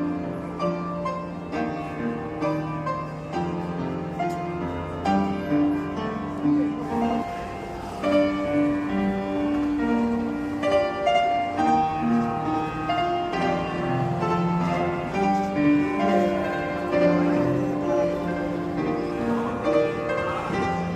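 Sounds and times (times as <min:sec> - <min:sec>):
piano melody: 0:00.0 - 0:20.9.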